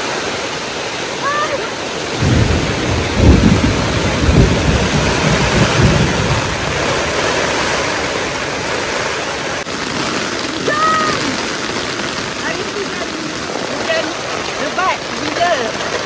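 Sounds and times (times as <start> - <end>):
river water rushing over rocks: 0.0 - 16.0
low rumbles: 1.2 - 15.9.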